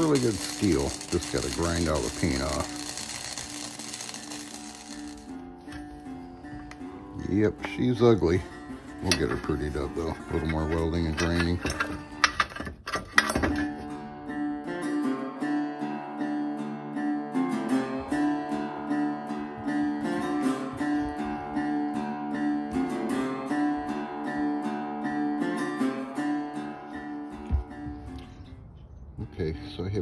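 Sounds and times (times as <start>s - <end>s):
acoustic guitar strummed and plucked: 0.0s - 28.2s.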